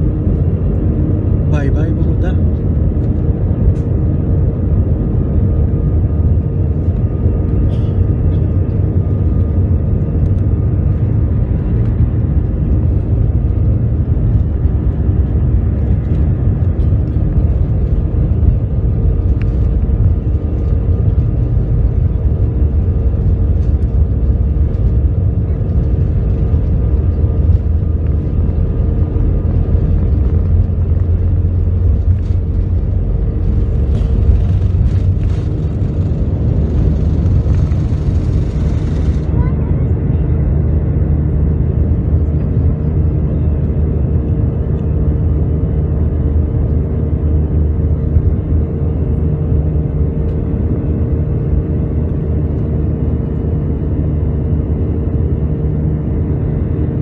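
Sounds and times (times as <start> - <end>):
jet engine whining tone: 0.0 - 57.0
jet engines rumbling at takeoff: 0.0 - 57.0.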